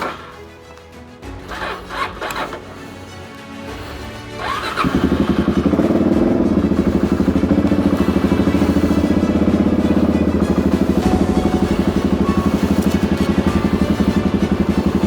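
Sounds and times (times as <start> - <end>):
motorcycle engine starting and idling: 0.0 - 0.4, 1.4 - 3.0, 4.4 - 15.0.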